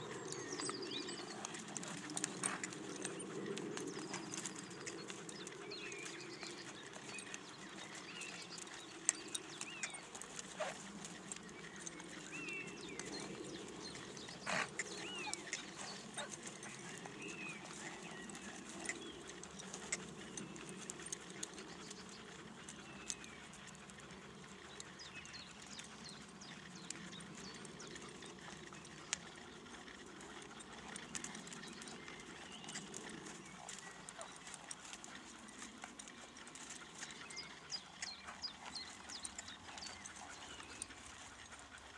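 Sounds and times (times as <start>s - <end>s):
hooves on sand: 0.0s - 41.9s.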